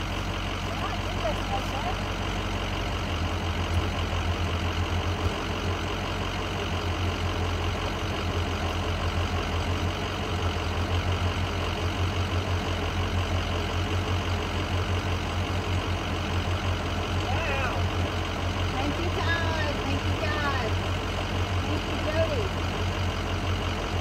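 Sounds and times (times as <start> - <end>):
pickup truck engine idling: 0.0 - 24.0.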